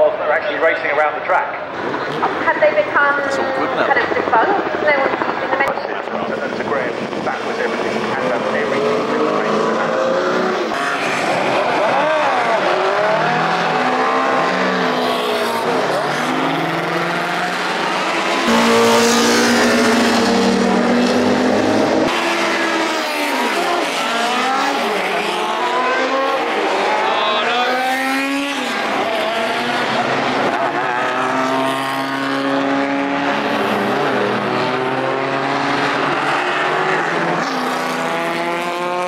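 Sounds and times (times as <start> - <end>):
racing car engines passing: 0.1 - 39.0.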